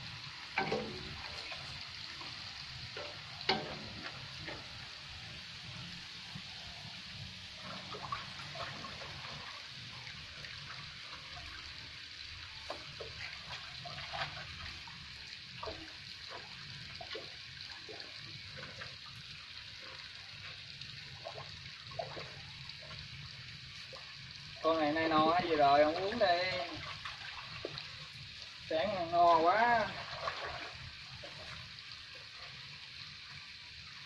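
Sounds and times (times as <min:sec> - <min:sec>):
faint steady hiss: 0:00.0 - 0:34.0
water sloshing and dripping: 0:00.0 - 0:34.0.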